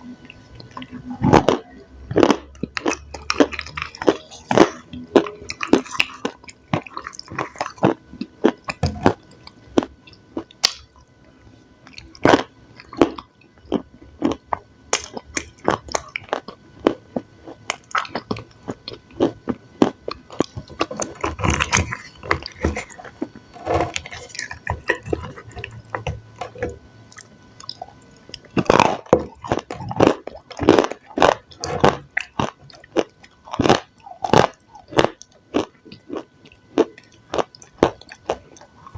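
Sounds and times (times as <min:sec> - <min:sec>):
person chewing and biting food: 0:00.1 - 0:11.1, 0:11.8 - 0:38.9.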